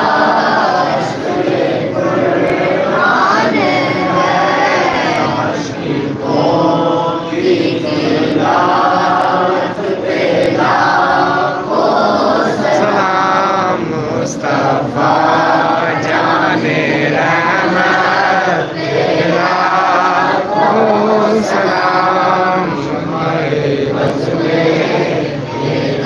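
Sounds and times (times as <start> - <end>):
men chanting in unison: 0.0 - 26.0.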